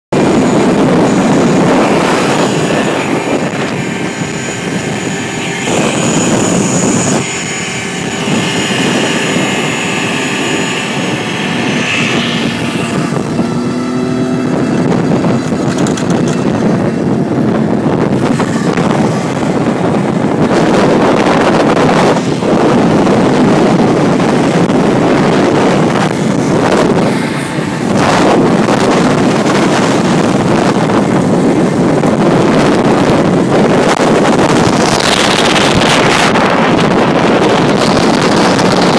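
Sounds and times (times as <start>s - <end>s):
diesel engine running hard: 0.1s - 38.9s
drivetrain whine: 0.1s - 38.9s
tyre and wind rushing noise: 0.1s - 38.9s.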